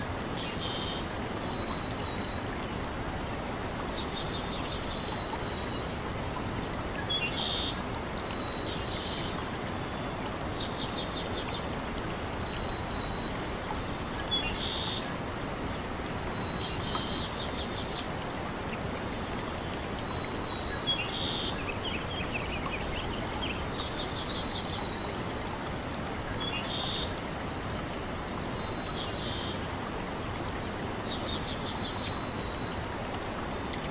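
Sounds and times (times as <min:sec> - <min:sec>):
running water: 0:00.0 - 0:33.9.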